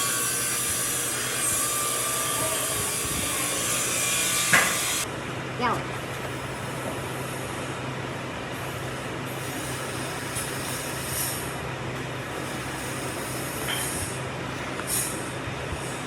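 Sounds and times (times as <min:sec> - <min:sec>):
workshop machine humming: 0:00.0 - 0:16.0.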